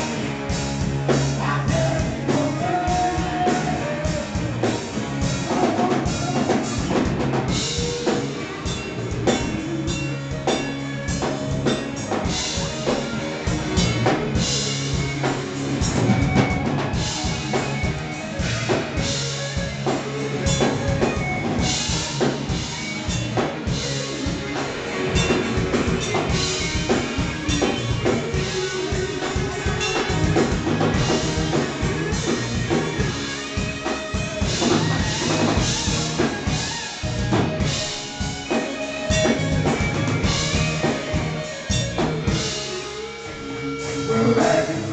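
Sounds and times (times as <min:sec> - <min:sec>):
drum kit beating: 0:00.0 - 0:44.9
electric bass: 0:00.0 - 0:44.9
electric guitars: 0:00.0 - 0:44.9.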